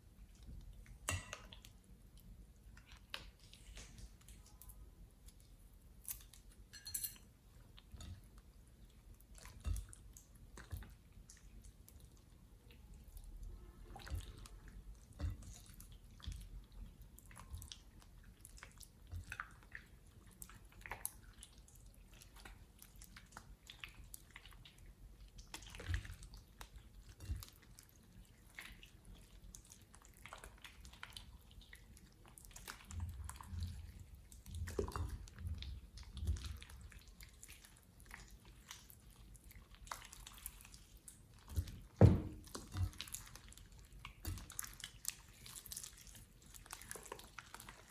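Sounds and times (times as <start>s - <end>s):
slime squelching: 8.2s - 47.9s.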